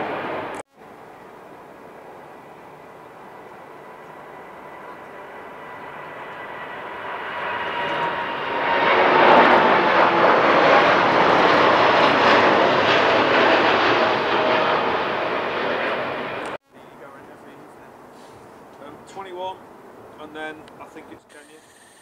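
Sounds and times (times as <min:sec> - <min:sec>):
jet airliner passing overhead: 0:00.0 - 0:18.2.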